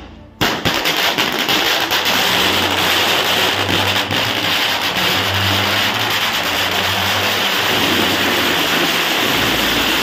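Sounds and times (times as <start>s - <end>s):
firecracker string crackling: 0.0s - 10.0s.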